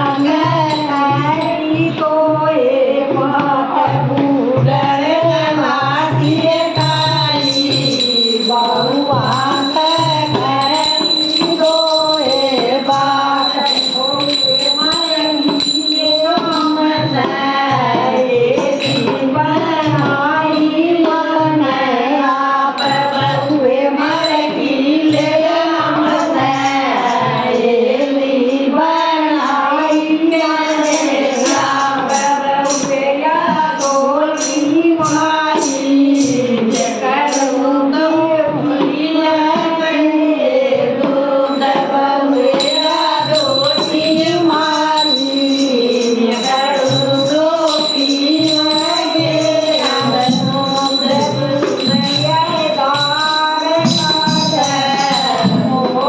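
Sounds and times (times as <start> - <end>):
jingling percussion: 0.0 - 56.0
steady drum beat: 3.8 - 21.7, 22.6 - 37.9, 40.9 - 56.0.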